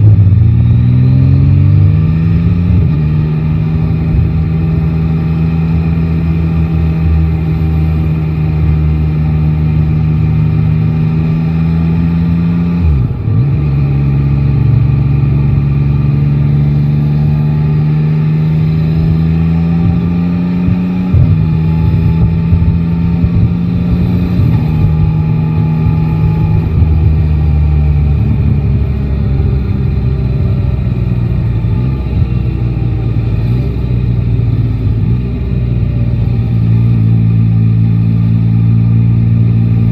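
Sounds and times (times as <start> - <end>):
motorcycle engine running: 1.4 - 39.9.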